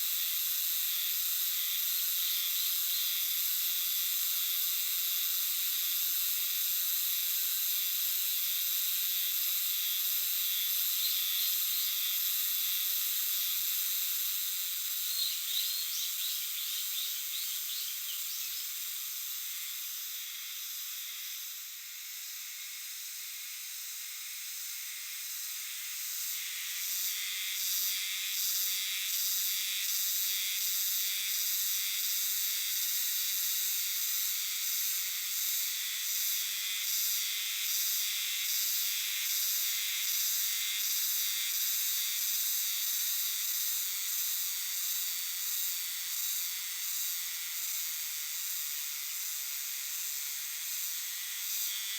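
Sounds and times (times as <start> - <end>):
cicadas buzzing in chorus: 0.0 - 51.9.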